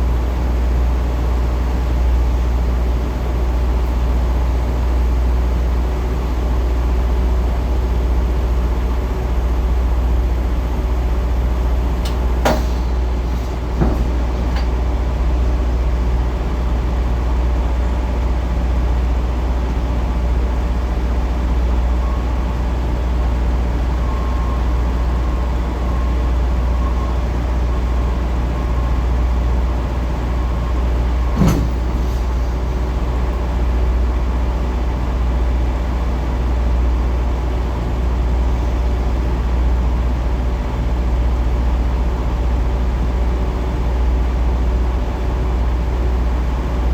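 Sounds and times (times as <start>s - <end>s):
semi trucks rumbling: 0.0s - 46.9s.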